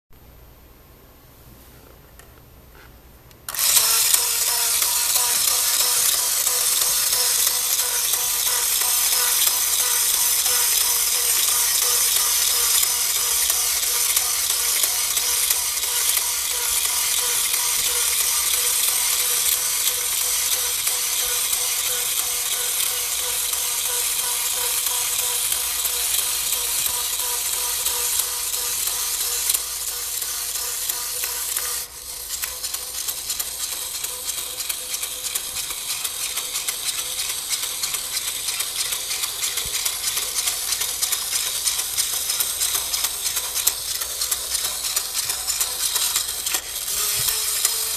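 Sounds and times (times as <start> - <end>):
fast rattling clicks: 3.5 - 47.9
toy motor whirring: 3.5 - 47.9.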